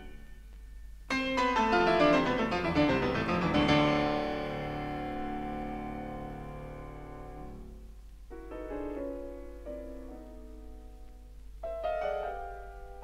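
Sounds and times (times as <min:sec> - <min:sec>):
low steady hum: 0:00.0 - 0:13.0
piano playing: 0:01.1 - 0:13.0.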